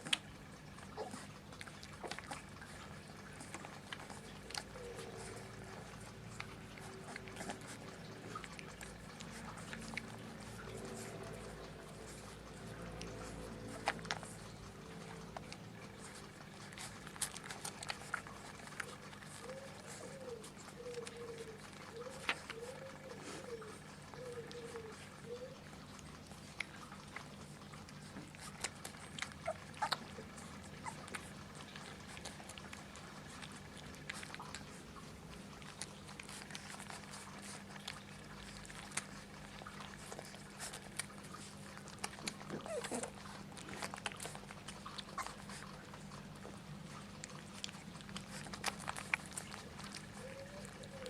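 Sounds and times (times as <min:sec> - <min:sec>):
puppies whimpering: 0:00.0 - 0:51.0.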